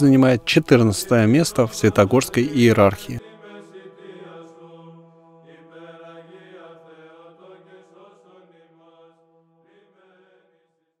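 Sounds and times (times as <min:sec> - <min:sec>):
chanting voices: 0:00.0 - 0:10.8.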